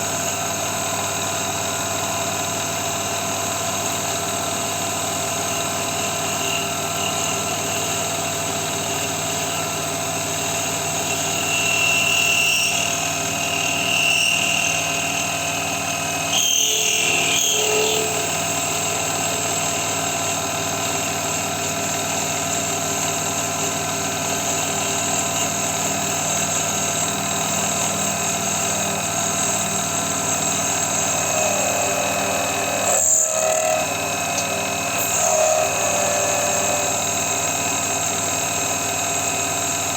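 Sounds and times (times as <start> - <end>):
metal lathe humming: 0.2 - 39.9.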